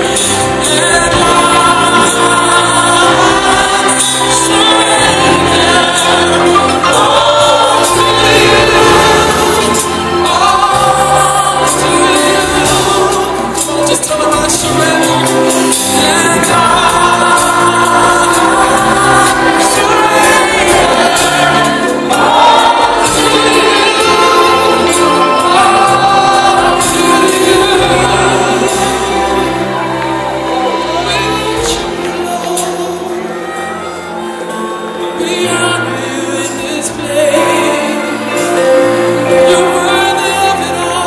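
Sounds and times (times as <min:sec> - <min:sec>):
live band playing: 0:00.0 - 0:41.0
singers singing together: 0:00.0 - 0:41.0.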